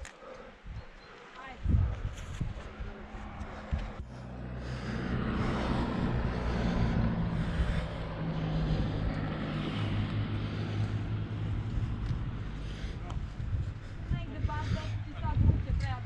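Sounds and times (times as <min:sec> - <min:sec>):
vehicle engine hum: 0:01.7 - 0:16.0.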